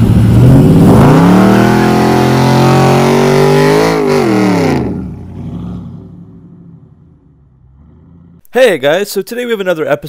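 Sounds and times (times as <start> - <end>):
car engine revving loudly: 0.0 - 8.4.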